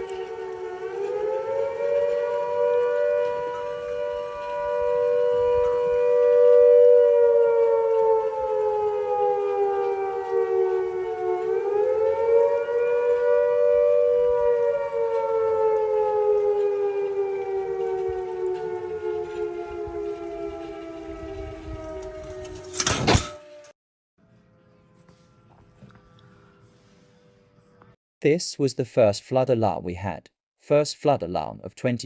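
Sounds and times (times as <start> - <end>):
warning siren rising and falling: 0.0 - 27.9.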